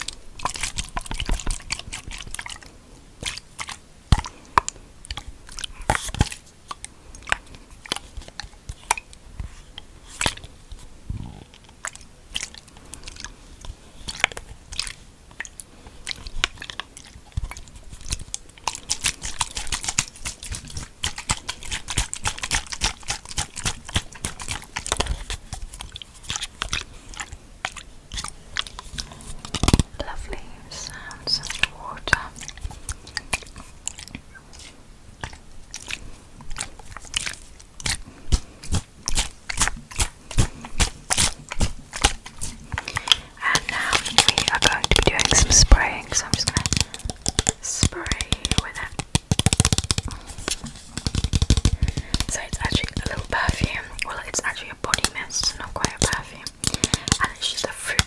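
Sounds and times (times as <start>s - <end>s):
wet mouth clicks and smacks: 0.0s - 9.2s, 11.5s - 58.0s.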